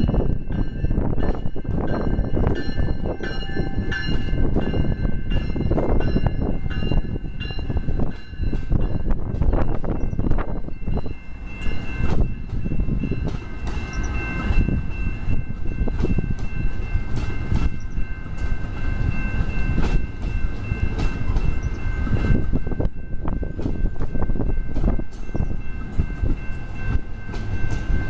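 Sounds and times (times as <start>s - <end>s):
train cars rumbling past: 0.0s - 28.0s.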